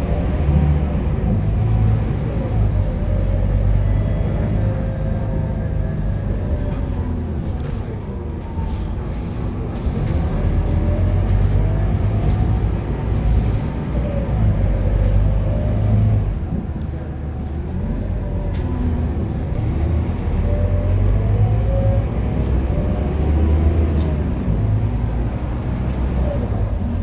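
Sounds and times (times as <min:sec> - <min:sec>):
bus diesel engine pulling hard: 0:00.0 - 0:27.0.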